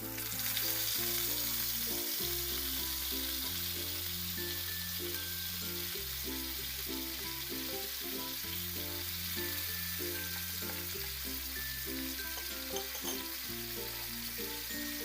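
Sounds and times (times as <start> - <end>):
background music with bass line: 0.0 - 15.0
food sizzling in a pan: 0.0 - 15.0.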